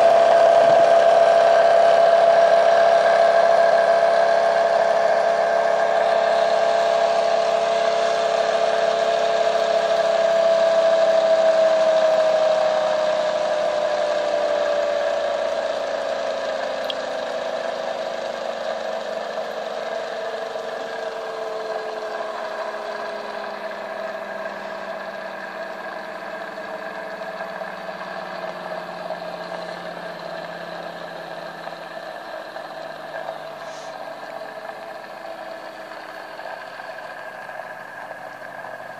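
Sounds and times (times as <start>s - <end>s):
motor whine: 0.0s - 38.9s.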